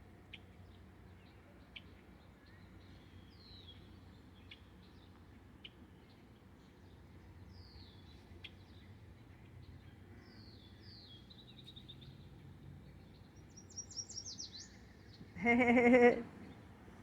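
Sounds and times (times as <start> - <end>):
low outdoor background: 0.0 - 17.0.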